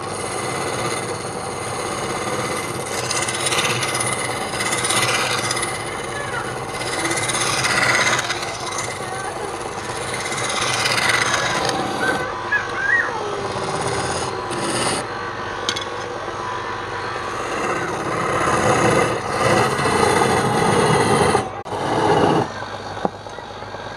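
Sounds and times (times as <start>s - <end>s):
lathe tool rasping on wood: 0.0s - 12.4s, 13.0s - 15.2s, 16.8s - 22.6s.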